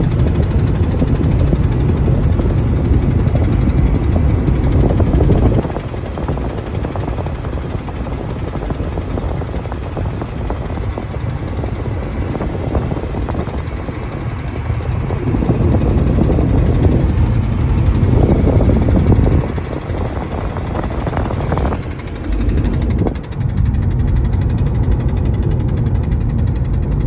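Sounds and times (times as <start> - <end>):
road and engine noise in car: 0.0 - 27.0.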